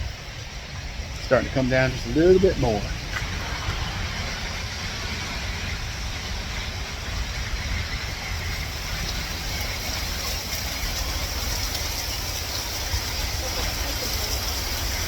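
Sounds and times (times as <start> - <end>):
light rain hiss: 0.0 - 15.0
wind buffeting microphone: 0.0 - 15.0.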